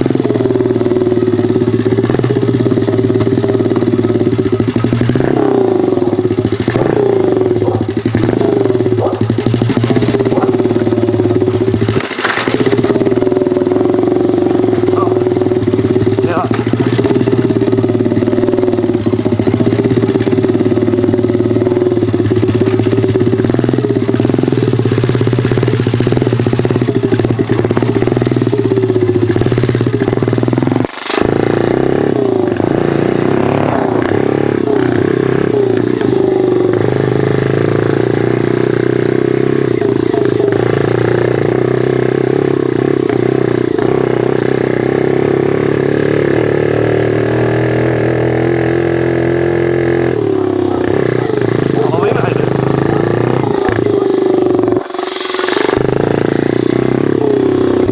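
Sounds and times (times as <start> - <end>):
pit bike engine running: 0.0 - 57.9.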